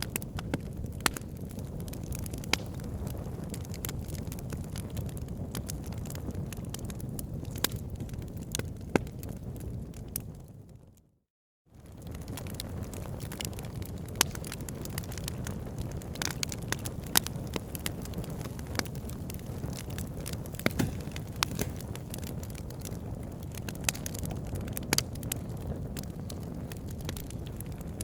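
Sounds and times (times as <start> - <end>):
campfire crackling and popping: 0.0 - 10.4, 11.8 - 28.0.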